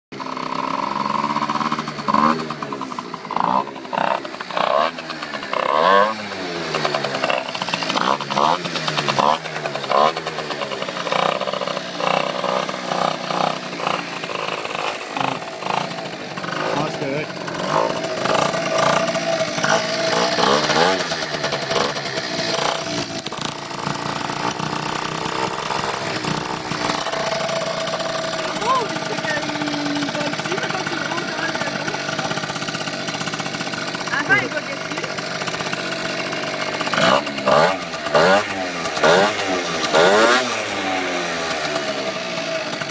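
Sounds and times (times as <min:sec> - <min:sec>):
scooter engine revving: 0:00.1 - 0:42.9.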